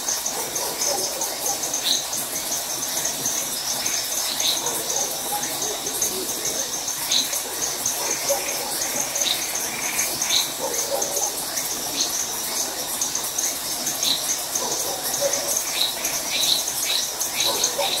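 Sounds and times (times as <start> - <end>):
crickets trilling: 0.0 - 18.0
frogs calling: 0.0 - 18.0.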